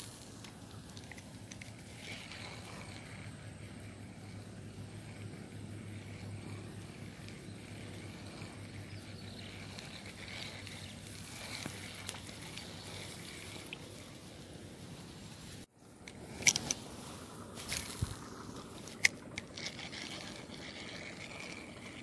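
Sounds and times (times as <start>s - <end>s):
faint hum and hiss: 0.0s - 22.0s.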